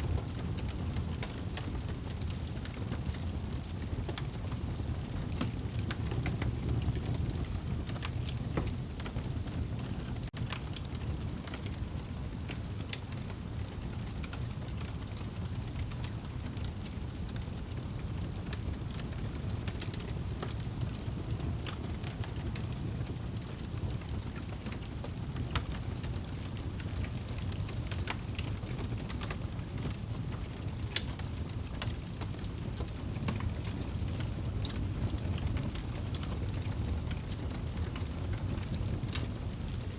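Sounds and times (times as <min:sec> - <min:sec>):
fire crackling and popping: 0:00.0 - 0:39.9
fire flames rumbling: 0:00.0 - 0:39.9.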